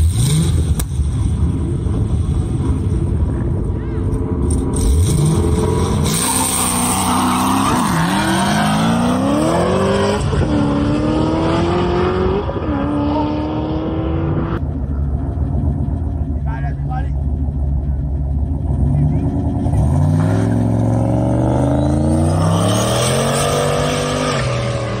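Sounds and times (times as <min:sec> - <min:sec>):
car engines revving hard: 0:00.0 - 0:25.0.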